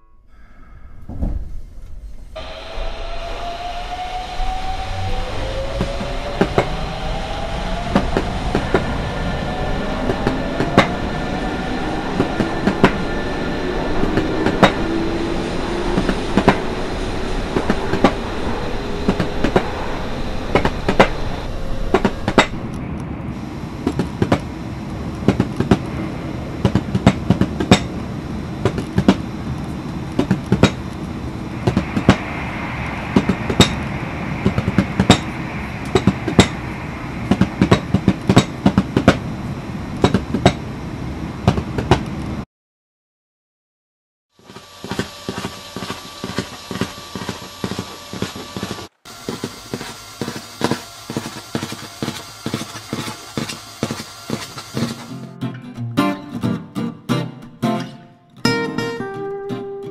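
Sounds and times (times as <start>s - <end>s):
electric train motor whine: 2.4s - 41.4s, 44.4s - 55.2s
wheels clacking over rail joints: 5.0s - 42.4s, 44.4s - 55.2s.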